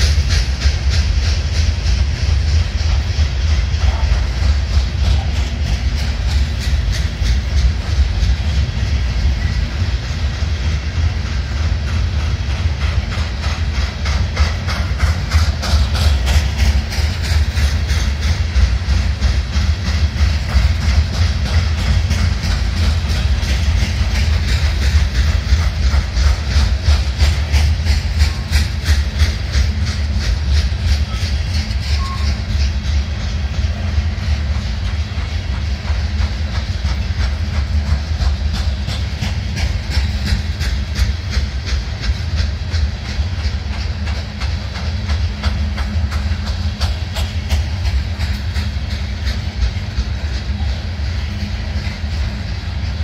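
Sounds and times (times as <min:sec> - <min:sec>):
hopper cars rolling with low rumble: 0:00.0 - 0:53.0
train wheels banging rhythmically: 0:00.0 - 0:53.0.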